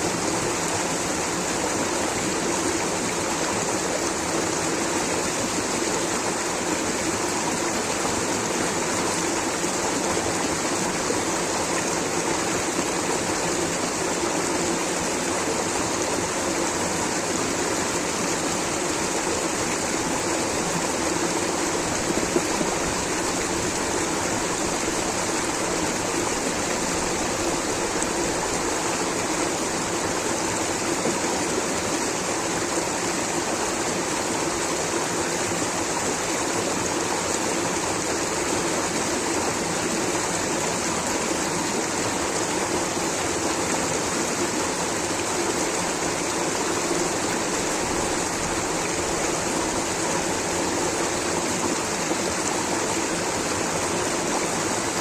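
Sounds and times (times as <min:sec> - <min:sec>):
water rushing over a stream: 0:00.0 - 0:55.0.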